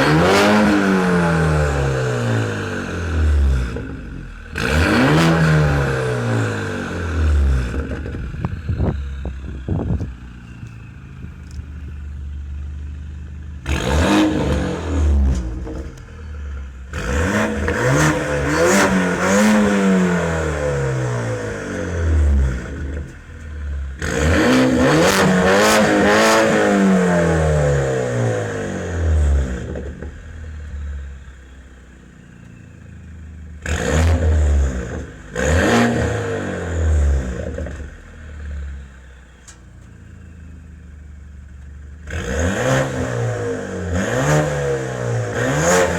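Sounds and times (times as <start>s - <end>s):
car engine revving: 0.0s - 31.6s, 33.3s - 39.3s, 40.9s - 45.9s.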